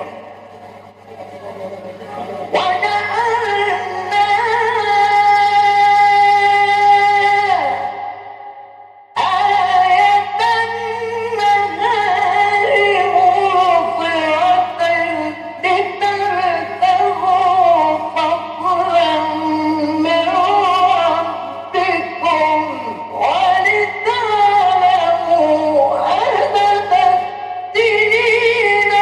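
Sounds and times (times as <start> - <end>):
man chanting melodically: 0.0 - 0.6, 2.0 - 29.0
steady low hum: 0.0 - 29.0.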